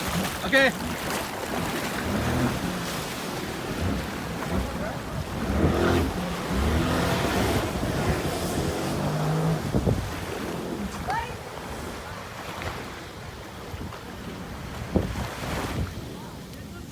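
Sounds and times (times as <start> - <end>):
jet ski engine running: 0.0 - 16.1
wind buffeting microphone: 0.0 - 16.9.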